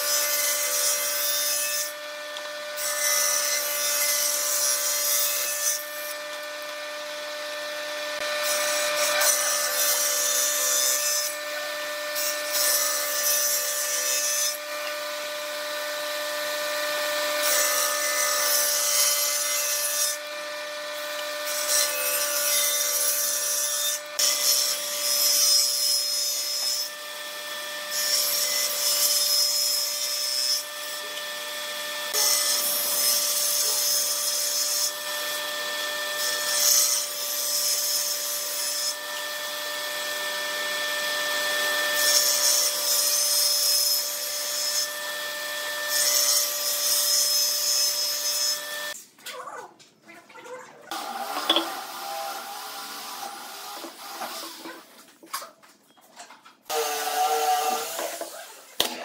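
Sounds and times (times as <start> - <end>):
table saw cutting boards: 0.0 - 49.0, 50.9 - 55.0, 56.6 - 59.0.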